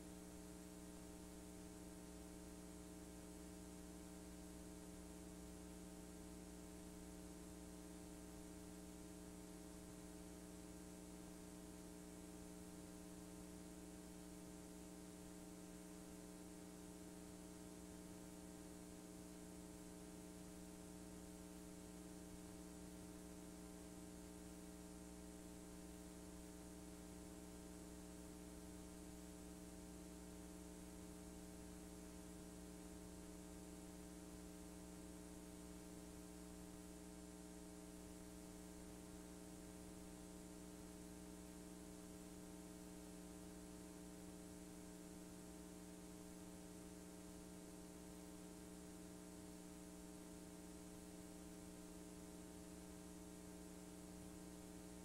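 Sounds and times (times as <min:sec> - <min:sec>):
faint electrical hum: 0:00.0 - 0:55.0
low tape hiss: 0:00.0 - 0:55.0.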